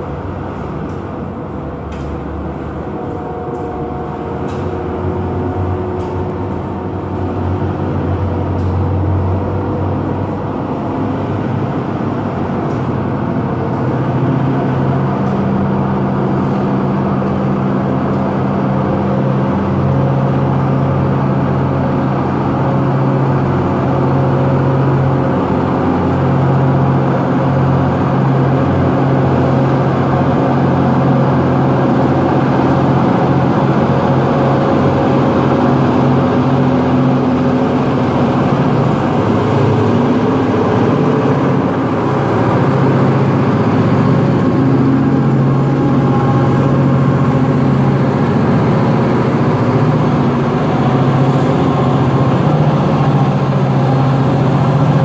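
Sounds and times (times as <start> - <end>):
locomotive engines droning: 0.0 - 55.0.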